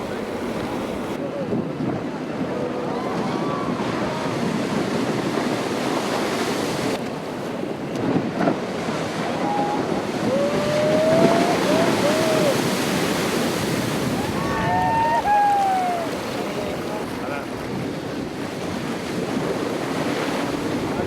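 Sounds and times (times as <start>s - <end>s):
ocean waves: 0.0s - 21.0s
wind buffeting microphone: 0.0s - 21.0s.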